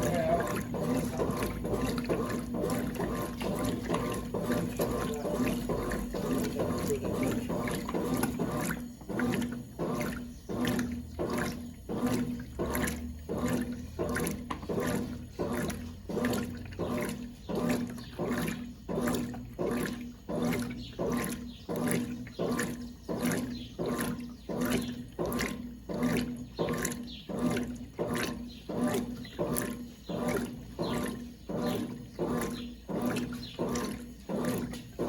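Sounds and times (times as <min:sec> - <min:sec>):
washing machine motor hum: 0:00.0 - 0:35.0
water sloshing in washing machine: 0:00.0 - 0:35.0.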